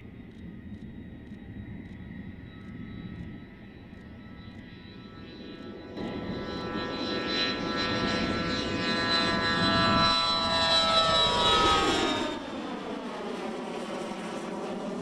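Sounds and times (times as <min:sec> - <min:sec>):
aircraft engines whining: 0:00.0 - 0:15.0.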